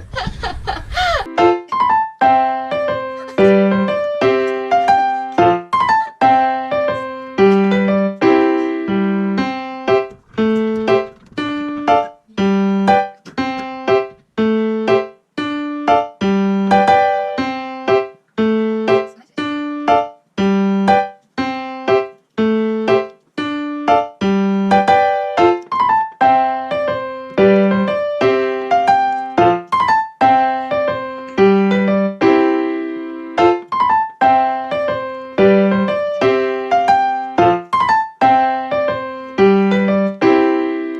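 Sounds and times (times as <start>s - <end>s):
bouncy piano tune: 0.1s - 40.9s.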